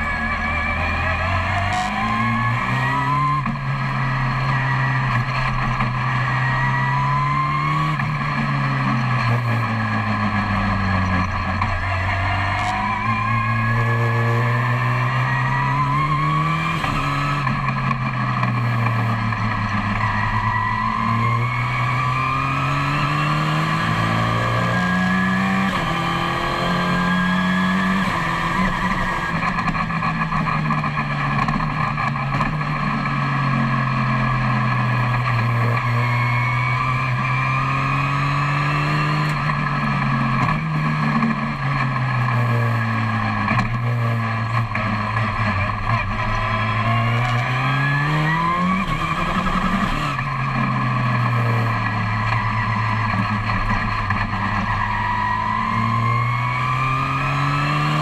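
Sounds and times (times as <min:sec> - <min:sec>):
engine revs shifting gears: 0:00.0 - 0:58.0
race car engine at speed: 0:00.0 - 0:58.0.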